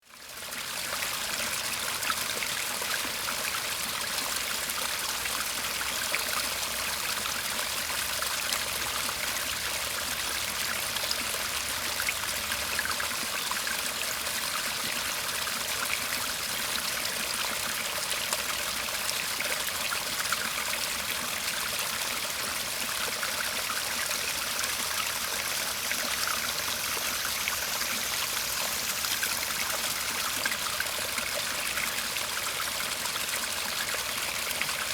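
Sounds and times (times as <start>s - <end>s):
shallow stream trickling: 0.0s - 34.9s.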